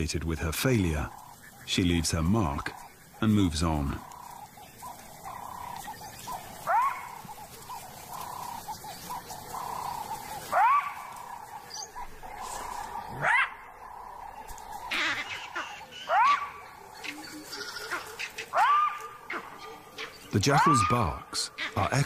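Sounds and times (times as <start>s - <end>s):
jackal alarm barks: 4.0s - 22.0s.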